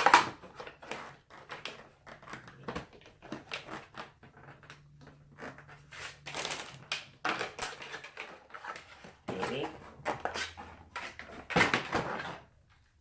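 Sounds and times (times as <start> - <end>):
packaging rustling and clicking: 0.0 - 12.8.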